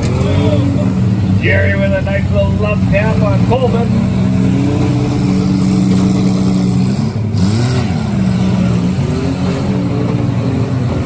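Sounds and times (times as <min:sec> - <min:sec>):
car engine revving: 0:00.0 - 0:11.0
car engines running: 0:00.0 - 0:11.0.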